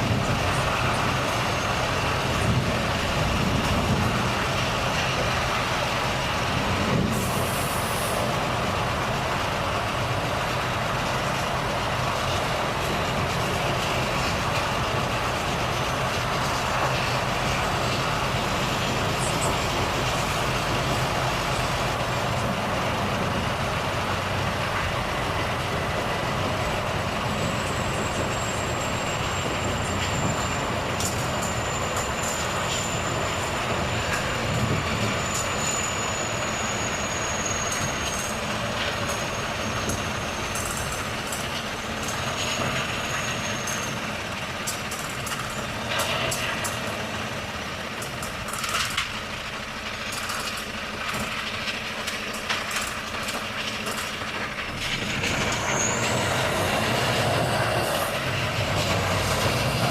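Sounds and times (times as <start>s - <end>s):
truck diesel engine running: 0.0s - 59.9s
tyre and road noise: 0.0s - 59.9s.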